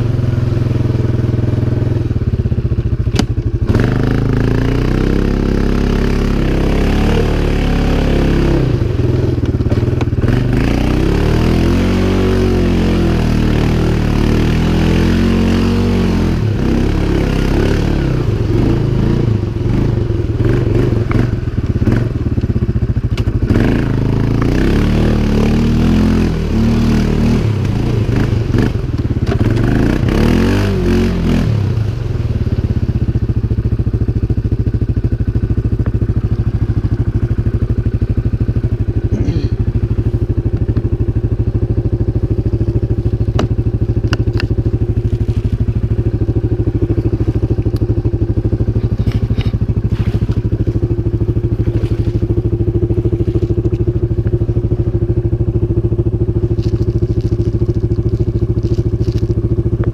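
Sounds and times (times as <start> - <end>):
atv engine revving and idling: 0.0 - 59.9.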